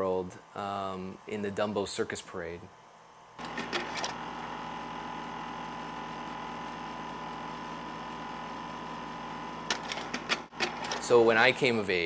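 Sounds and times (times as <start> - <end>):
projector fan hum and whine: 0.0 - 12.0.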